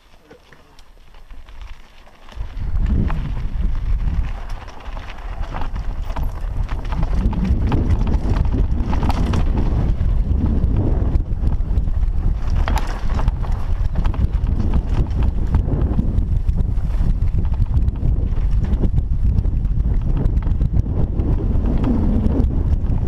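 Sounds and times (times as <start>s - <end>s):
mountain bike rattling on dirt trail: 0.0s - 23.0s
wind over microphone: 1.4s - 23.0s.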